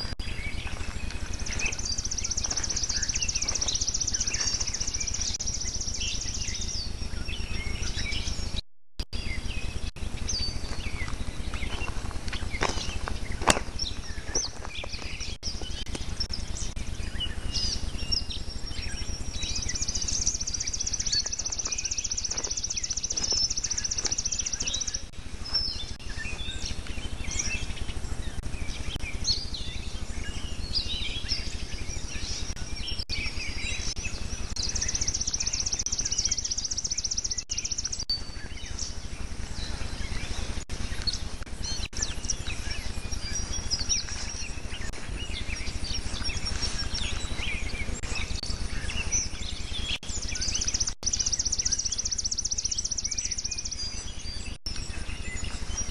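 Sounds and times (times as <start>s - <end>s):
high rapid bird trill: 0.0s - 55.9s
songbirds chirping and whistling: 0.0s - 55.9s
steady low hum: 0.0s - 55.9s.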